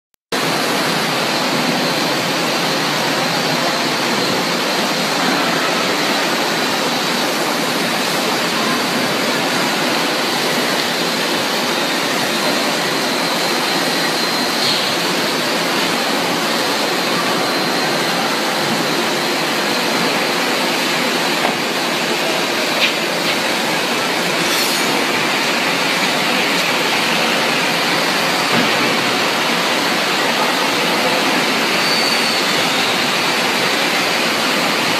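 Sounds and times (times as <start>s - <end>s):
factory machinery roar: 0.4s - 34.9s.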